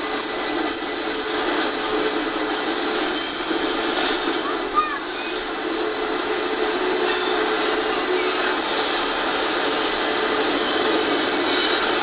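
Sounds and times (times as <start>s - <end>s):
freight train wheels rolling: 0.0s - 12.0s
high-pitched wheel squeal: 0.0s - 12.0s.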